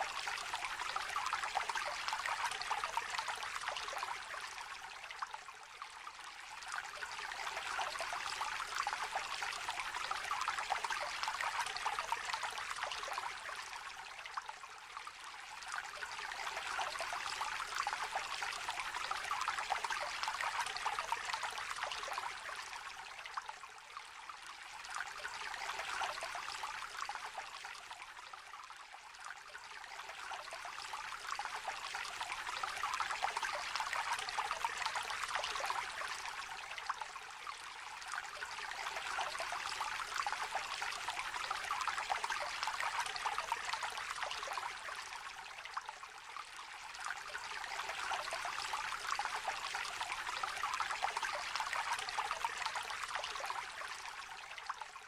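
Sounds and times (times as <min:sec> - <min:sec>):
small river babbling: 0:00.0 - 0:55.0.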